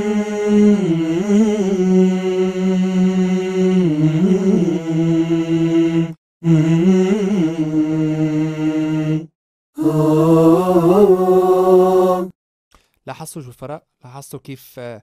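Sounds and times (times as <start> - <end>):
man singing a cappella: 0.0 - 12.3.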